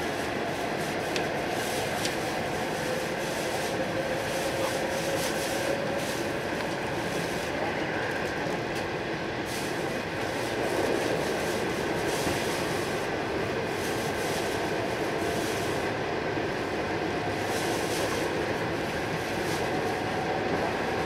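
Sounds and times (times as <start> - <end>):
faint train whine: 0.0 - 21.0
rumble of train wheels and air: 0.0 - 21.0.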